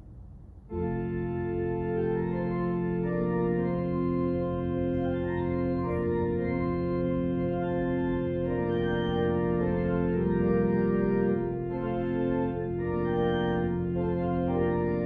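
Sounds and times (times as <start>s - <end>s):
organ playing slow chords: 0.7s - 15.0s.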